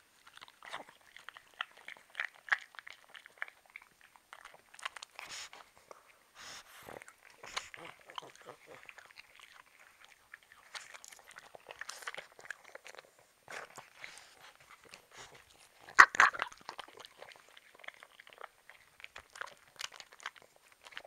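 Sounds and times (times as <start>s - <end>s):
dogs crunching and chewing pear: 0.0s - 21.0s.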